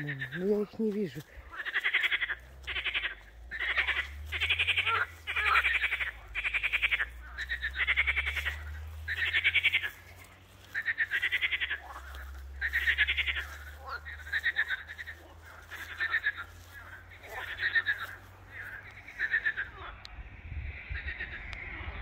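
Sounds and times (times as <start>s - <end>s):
frogs rattling calls: 0.0s - 20.1s.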